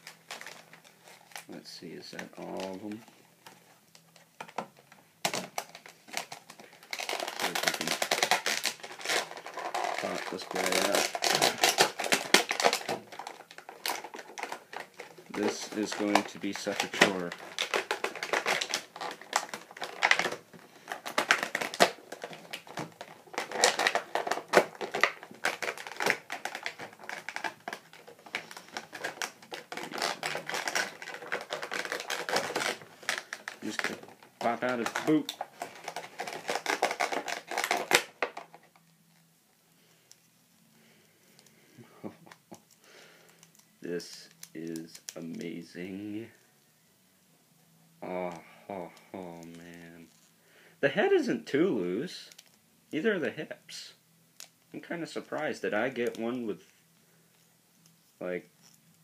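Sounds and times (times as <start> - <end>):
packaging crinkling: 0.0 - 46.4, 54.4 - 59.0.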